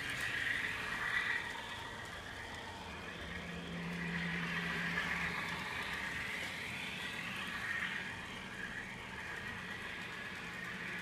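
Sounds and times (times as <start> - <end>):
steady low hum: 0.0 - 11.0
tinny diesel engine sound from speaker: 0.0 - 11.0.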